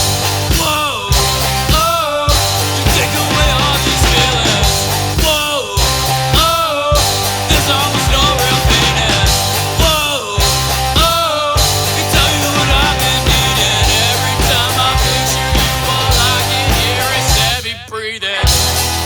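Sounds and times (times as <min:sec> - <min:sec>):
rock song playing: 0:00.0 - 0:19.0.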